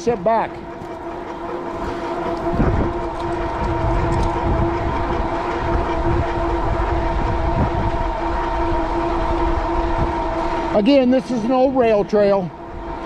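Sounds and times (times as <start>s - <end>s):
electric motor whine: 0.0s - 13.0s
wind buffeting microphone: 0.0s - 13.0s.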